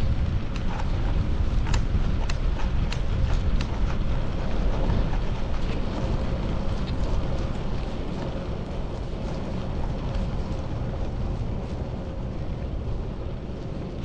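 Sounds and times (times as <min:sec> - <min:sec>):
light bicycle clicks and rattles: 0:00.0 - 0:14.0
wind rushing over microphone: 0:00.0 - 0:14.0.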